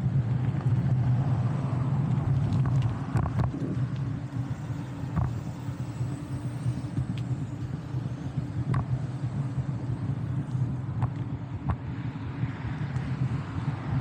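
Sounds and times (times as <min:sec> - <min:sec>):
bicycle road rumble: 0:00.0 - 0:14.0.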